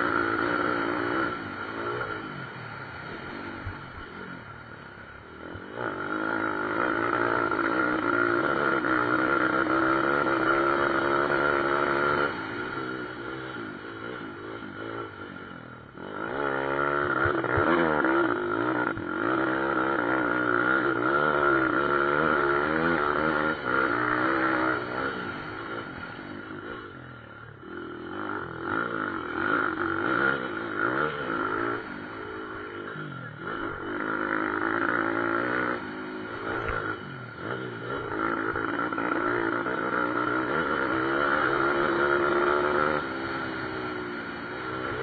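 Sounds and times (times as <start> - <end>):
pit bike engines revving: 0.0 - 45.0.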